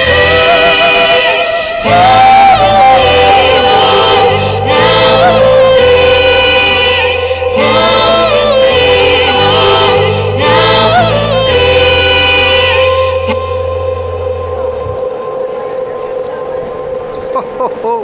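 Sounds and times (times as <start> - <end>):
bass line: 0.0 - 17.9
voices singing in harmony: 0.0 - 18.0.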